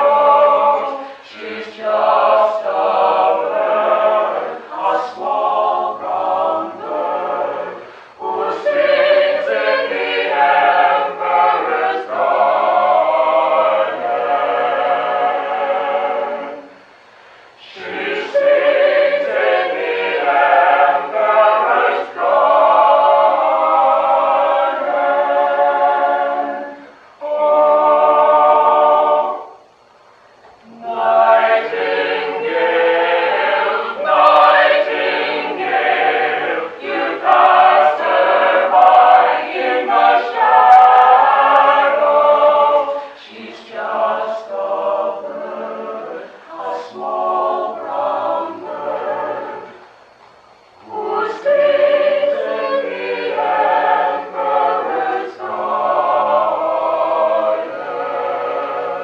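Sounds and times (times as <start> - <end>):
mixed vocal ensemble singing: 0.0 - 59.0.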